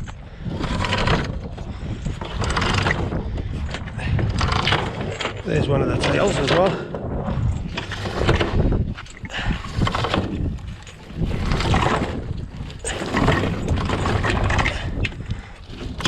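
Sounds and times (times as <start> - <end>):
heavy chain hauled from water: 0.0 - 16.0
wind buffeting microphone: 0.0 - 16.0.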